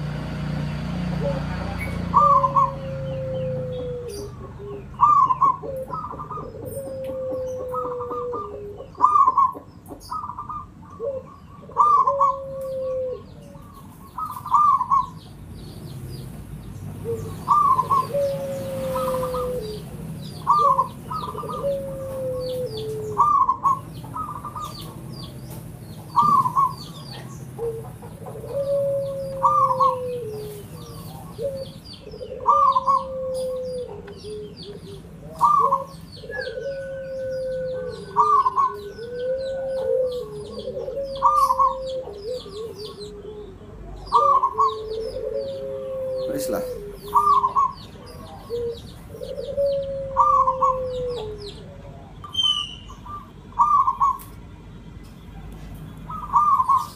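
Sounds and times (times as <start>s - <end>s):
dove cooing: 0.0s - 15.7s, 16.7s - 54.3s, 55.4s - 56.9s
small birds chirping: 0.0s - 56.9s.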